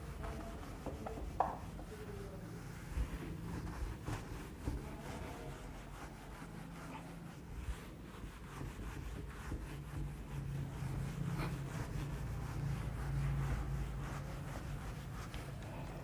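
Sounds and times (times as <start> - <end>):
eraser wiping whiteboard: 0.0 - 16.0.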